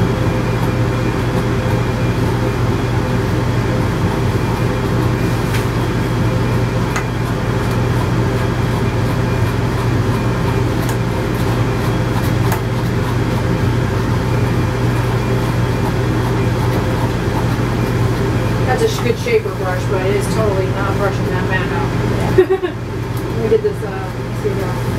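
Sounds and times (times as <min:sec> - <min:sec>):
machinery humming: 0:00.0 - 0:24.9.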